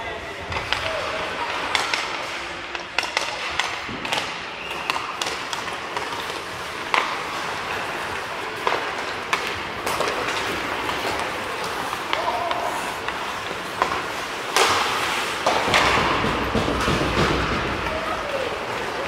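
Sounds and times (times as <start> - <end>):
skates scraping ice: 0.1 - 19.0
sticks clacking on puck: 0.5 - 19.0.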